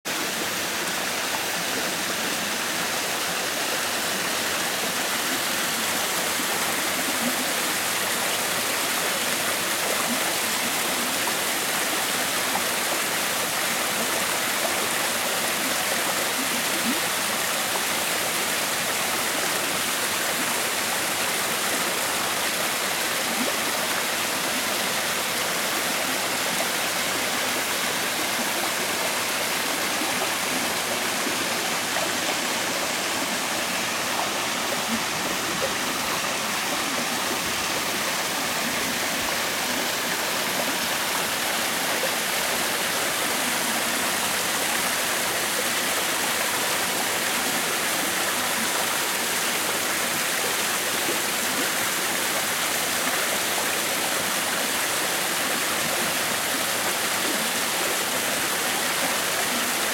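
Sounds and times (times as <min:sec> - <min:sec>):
mountain stream babbling over rocks: 0:00.1 - 0:59.9.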